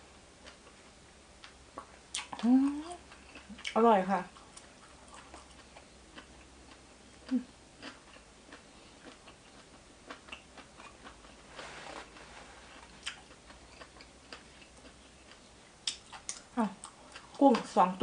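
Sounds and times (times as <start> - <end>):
person eating: 1.8 - 17.7.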